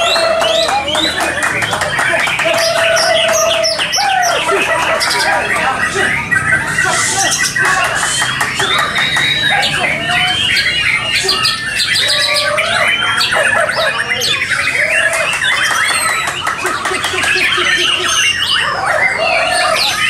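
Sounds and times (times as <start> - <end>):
many songbirds singing: 0.0 - 20.0.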